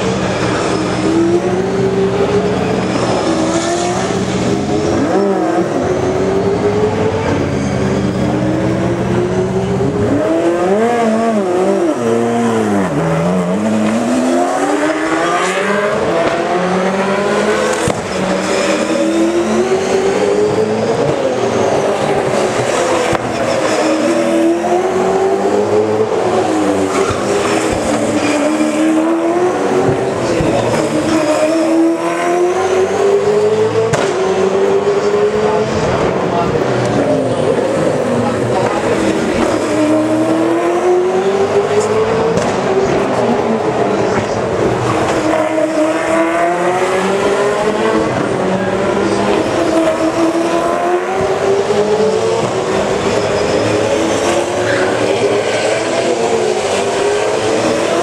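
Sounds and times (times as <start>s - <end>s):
race car engines running hard: 0.0s - 58.0s.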